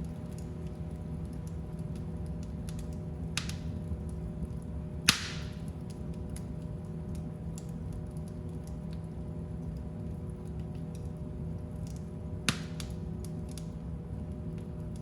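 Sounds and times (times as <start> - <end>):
fire crackling in fireplace: 0.0 - 15.0
fire popping with hiss: 0.0 - 15.0.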